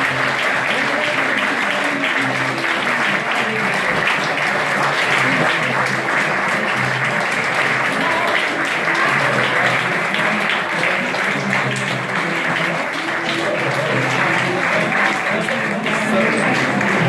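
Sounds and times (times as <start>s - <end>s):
audience clapping: 0.0s - 17.0s
music playing: 0.0s - 17.0s.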